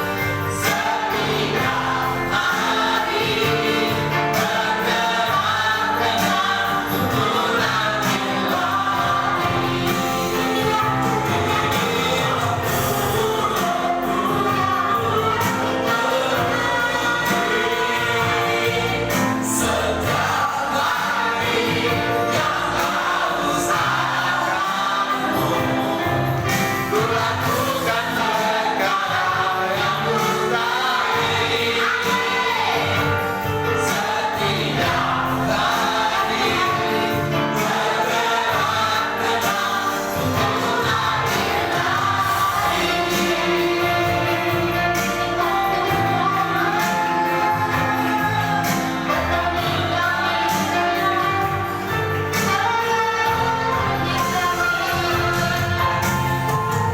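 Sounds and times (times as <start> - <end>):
choir singing: 0.0 - 56.9
live band playing: 0.0 - 56.9.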